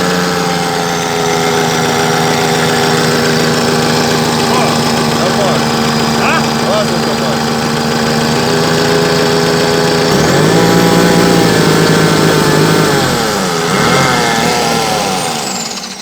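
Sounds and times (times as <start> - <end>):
diesel engine running and revving: 0.0 - 16.0.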